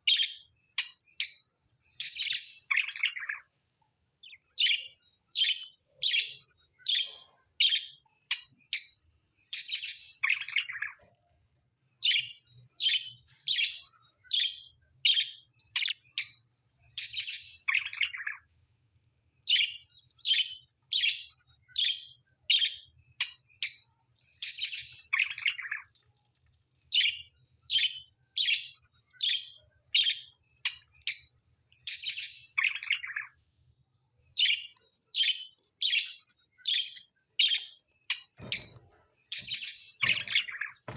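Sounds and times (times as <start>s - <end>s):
bird chirping: 0.0s - 18.6s, 19.4s - 40.9s.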